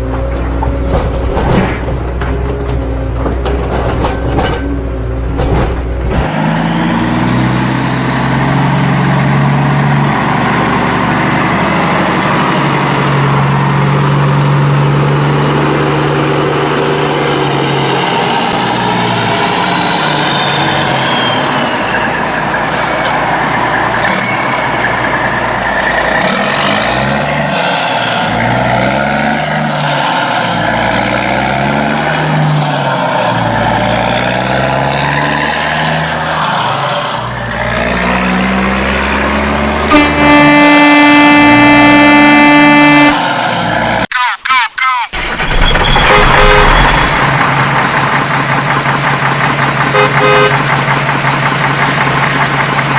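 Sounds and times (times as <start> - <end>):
truck engine revving: 0.0 - 44.1, 45.1 - 52.9.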